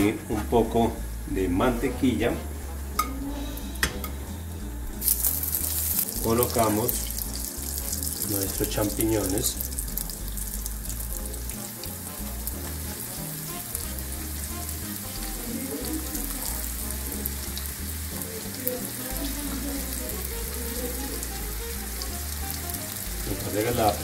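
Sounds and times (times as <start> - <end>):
mushrooms sizzling in butter: 0.0 - 24.0.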